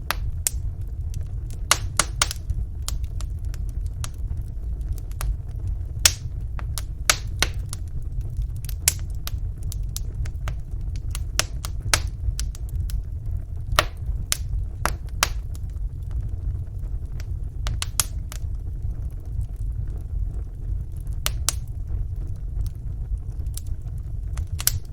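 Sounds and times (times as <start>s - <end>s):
logs crackling and popping: 0.0s - 24.9s
low rumble of flames: 0.0s - 24.9s.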